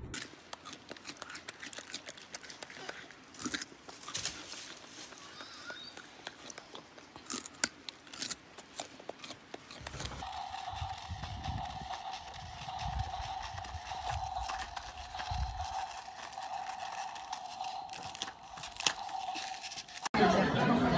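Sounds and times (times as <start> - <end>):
animal chewing crunching: 0.1 - 20.2.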